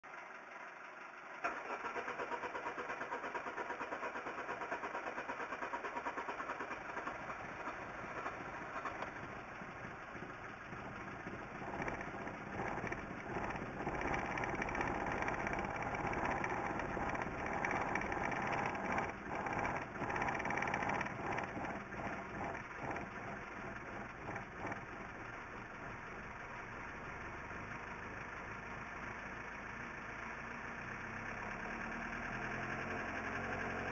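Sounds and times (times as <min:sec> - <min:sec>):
car engine starting and running: 0:00.1 - 0:33.9.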